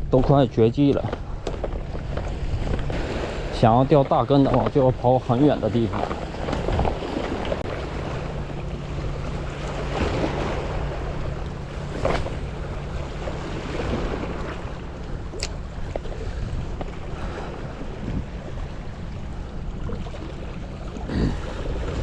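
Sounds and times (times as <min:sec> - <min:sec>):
waves washing on rocky shore: 0:00.0 - 0:19.1
steady low hum: 0:00.0 - 0:22.0
wind rumbling on microphone: 0:00.0 - 0:22.0.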